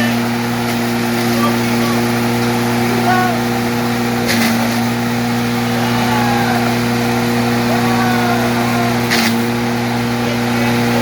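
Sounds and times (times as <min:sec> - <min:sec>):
wood chipper motor humming: 0:00.0 - 0:11.0.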